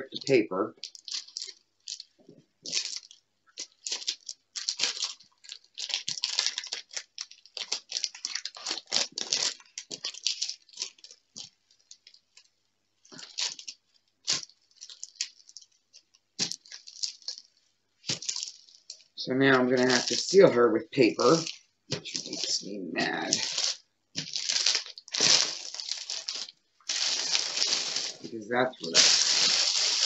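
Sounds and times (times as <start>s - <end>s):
plastic film crinkling: 0.0s - 30.0s.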